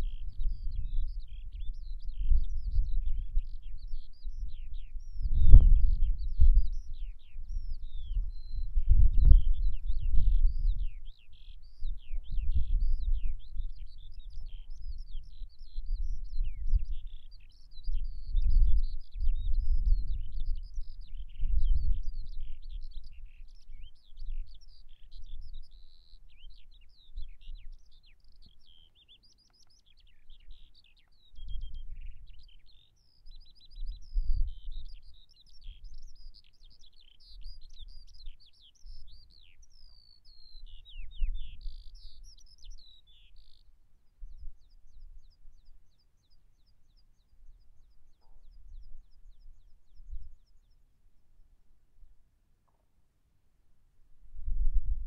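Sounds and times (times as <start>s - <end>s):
songbirds chirping and warbling: 0.0s - 51.0s.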